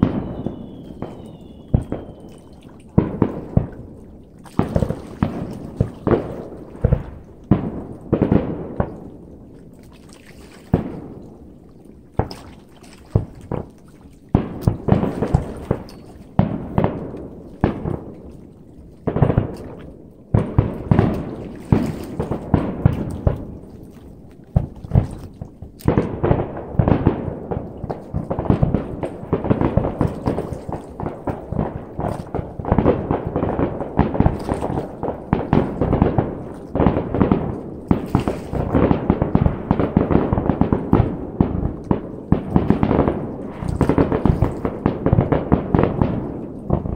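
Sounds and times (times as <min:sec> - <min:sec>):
firework bursts with rolling echo: 0:00.0 - 0:09.7, 0:10.6 - 0:46.9.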